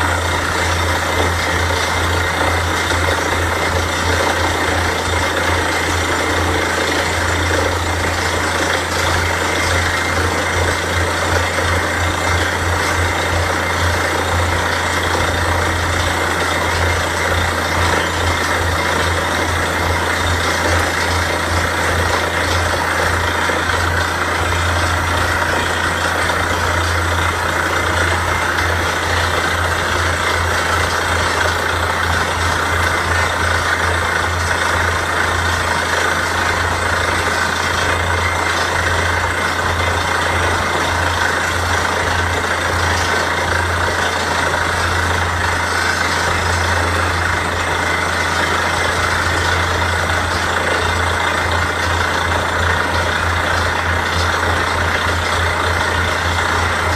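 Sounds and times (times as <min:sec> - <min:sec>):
drilling rig engine droning: 0:00.0 - 0:56.9.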